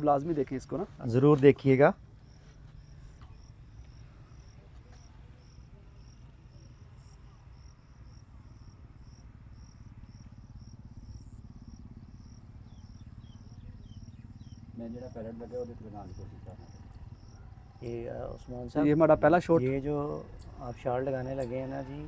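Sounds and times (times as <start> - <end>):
high insect trills: 0.0 - 22.0
insects chirping: 0.0 - 22.0
low steady rumble: 0.0 - 22.0.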